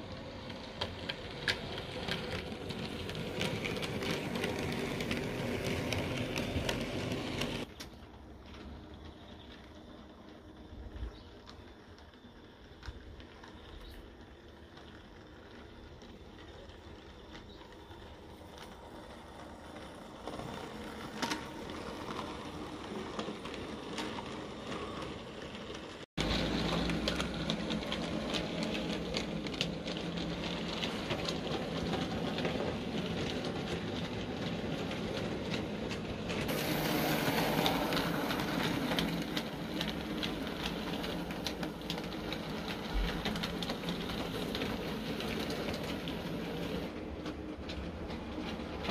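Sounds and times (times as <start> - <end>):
model train motor whirring: 0.0 - 7.9, 11.5 - 47.0
wheels clicking over rail joints: 0.0 - 48.9.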